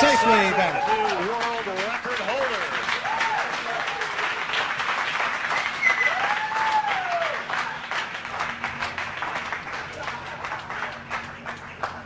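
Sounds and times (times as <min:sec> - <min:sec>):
crowd applauding and cheering: 0:00.0 - 0:12.0.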